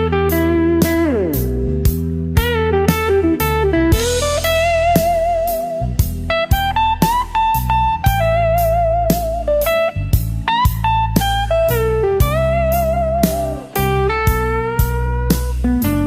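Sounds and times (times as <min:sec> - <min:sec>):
electric slide guitar: 0:00.0 - 0:16.0
steady drum beat: 0:00.1 - 0:16.0.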